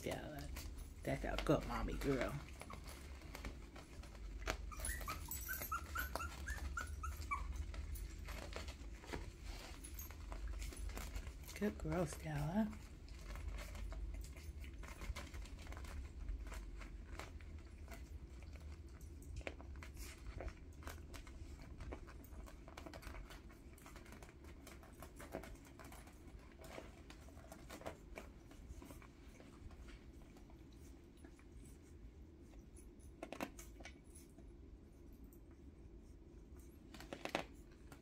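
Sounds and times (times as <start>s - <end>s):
puppies suckling smacking clicks: 0.3s - 11.6s, 12.4s - 34.3s.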